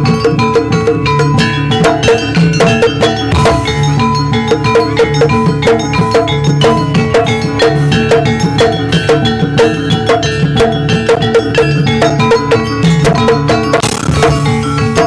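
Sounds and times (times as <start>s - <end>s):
drums: 0.0s - 15.0s
tuned metal percussion: 0.0s - 15.0s.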